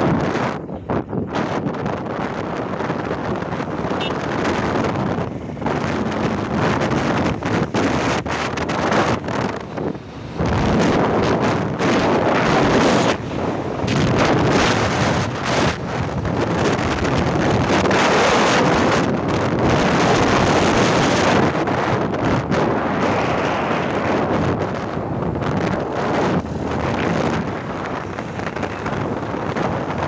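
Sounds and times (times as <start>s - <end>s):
road rumble: 0.0s - 30.0s
wind buffeting microphone: 0.0s - 30.0s.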